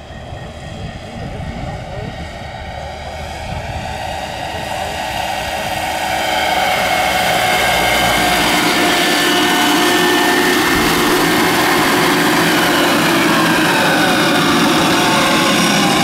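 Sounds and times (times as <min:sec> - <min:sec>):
helicopter rotor noise: 0:00.0 - 0:16.0
high motor whine: 0:00.0 - 0:16.0.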